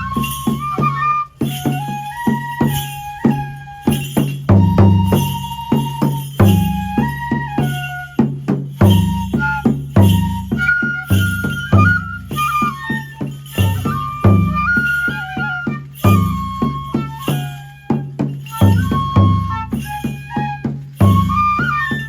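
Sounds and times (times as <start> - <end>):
bamboo flute melody: 0.0 - 22.0
drum strokes: 0.0 - 22.0
sharp percussive strikes: 0.0 - 22.0.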